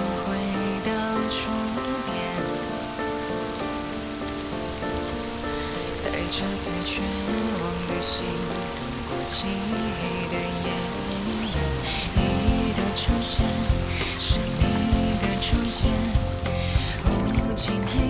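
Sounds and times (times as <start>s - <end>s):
heavy rain falling: 0.0s - 18.0s
slow song with held notes: 0.0s - 18.0s.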